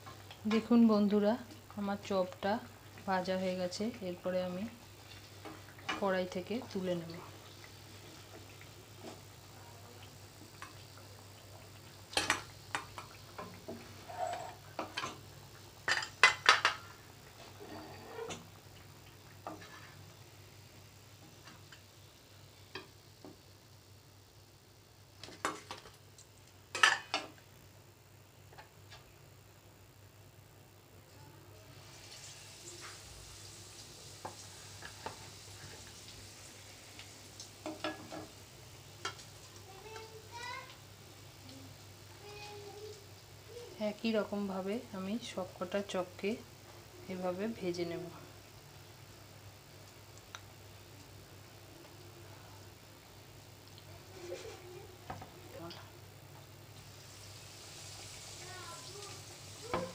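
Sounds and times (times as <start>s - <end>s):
oil sizzling: 0.0s - 30.2s, 31.0s - 59.9s.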